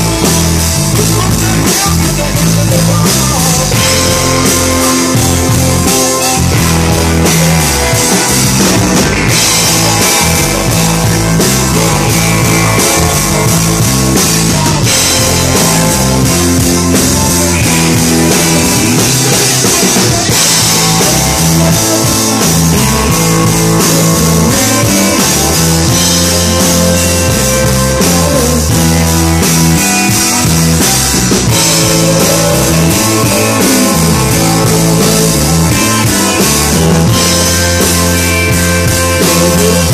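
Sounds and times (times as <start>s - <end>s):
drum kit: 0.0s - 39.9s
electric guitar: 0.0s - 39.9s
rock band playing: 0.0s - 39.9s.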